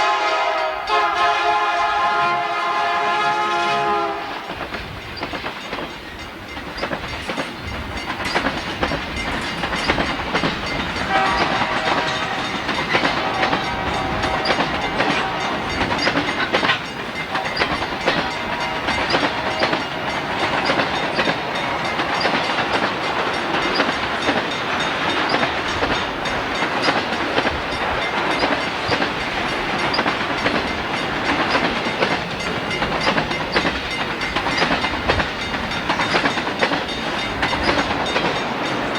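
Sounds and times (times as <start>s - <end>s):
freight train wheels clicking: 0.0s - 38.9s.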